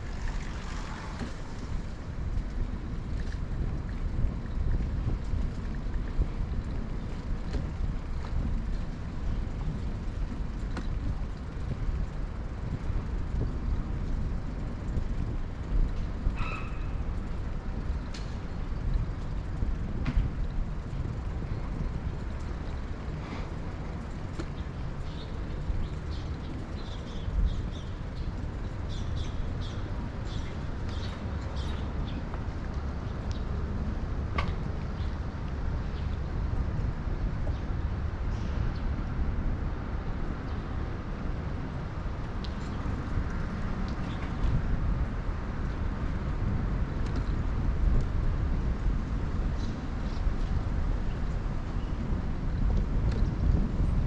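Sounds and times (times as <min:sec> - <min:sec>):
bicycle road rumble: 0:00.0 - 0:54.0
wind buffeting microphone: 0:00.0 - 0:54.0.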